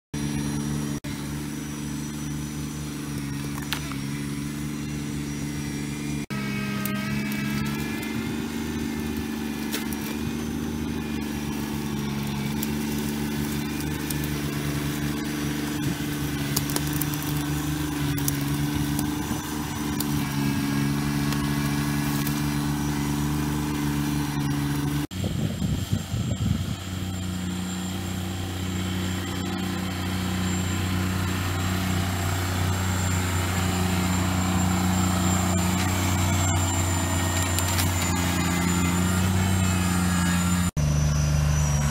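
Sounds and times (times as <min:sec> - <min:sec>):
tractor diesel engine running: 0:00.2 - 0:41.9
uneven engine clatter: 0:00.2 - 0:41.9.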